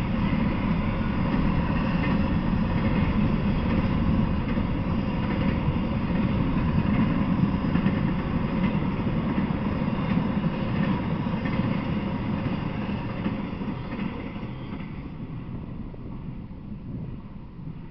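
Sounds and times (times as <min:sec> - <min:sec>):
train wheels rumbling and clattering: 0:00.0 - 0:17.9.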